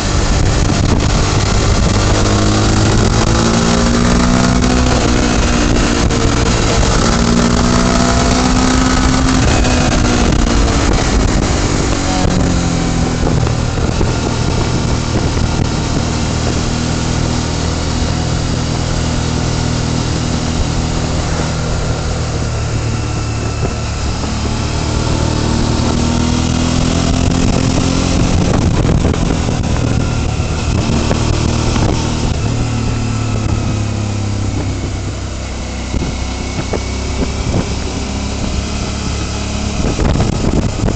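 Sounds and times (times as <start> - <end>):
motorcycle engine running: 0.0 - 40.9
wind rushing: 0.0 - 40.9.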